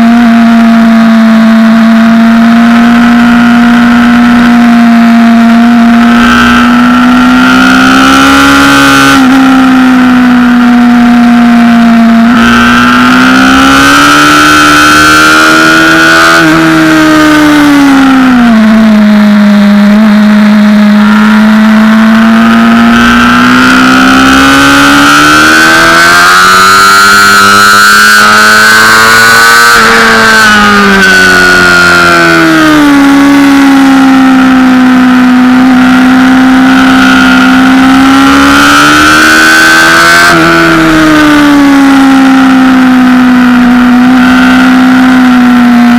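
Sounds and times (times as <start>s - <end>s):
motorcycle engine revving high: 0.0s - 45.9s.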